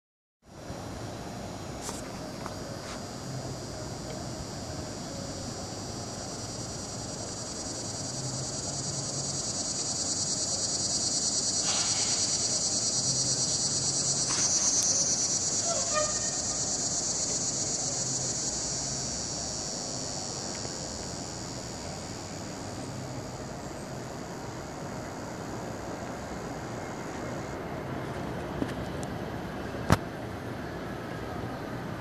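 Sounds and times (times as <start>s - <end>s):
cicadas buzzing: 0.5s - 29.9s.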